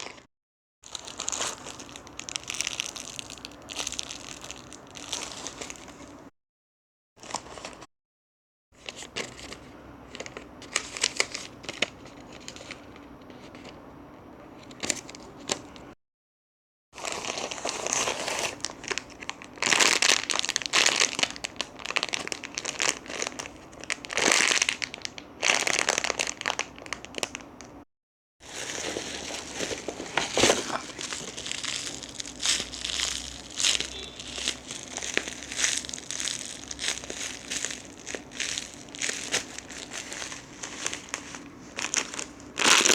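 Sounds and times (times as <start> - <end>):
packaging crinkling and rustling: 0.0 - 0.2, 0.9 - 6.3, 8.8 - 13.8, 14.5 - 16.0, 17.0 - 27.8, 28.4 - 42.9.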